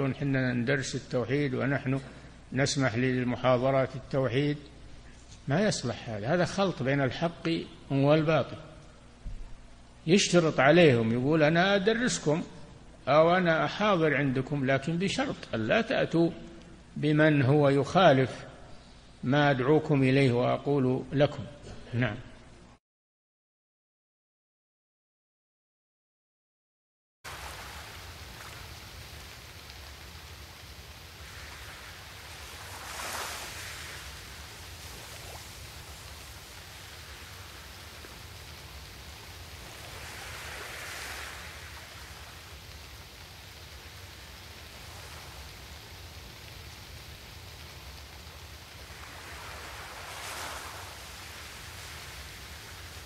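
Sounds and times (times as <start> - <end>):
steady hiss: 0.0 - 22.8, 27.3 - 53.0.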